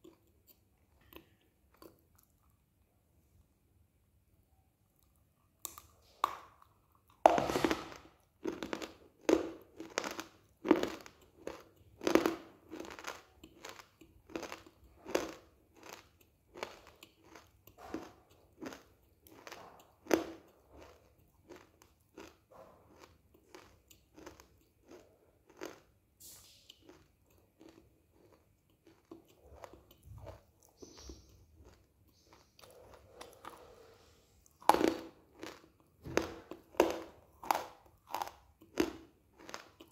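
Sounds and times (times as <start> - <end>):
person crunching and chewing: 0.0 - 2.7, 5.0 - 39.9.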